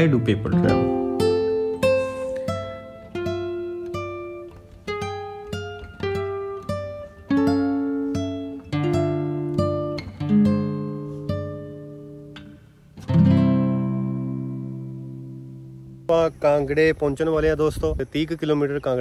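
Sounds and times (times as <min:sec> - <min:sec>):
acoustic guitar picked notes: 0:00.0 - 0:17.0.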